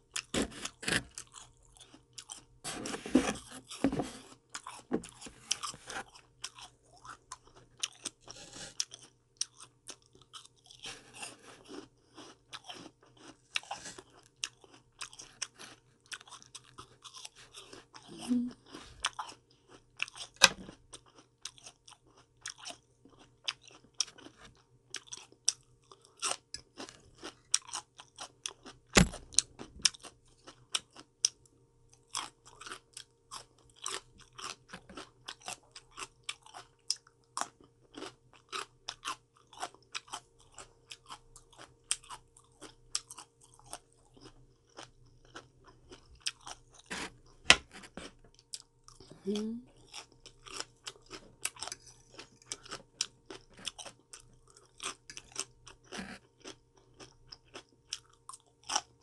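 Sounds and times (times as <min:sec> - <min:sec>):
person chewing crunchy vegetables: 0:00.0 - 0:59.0.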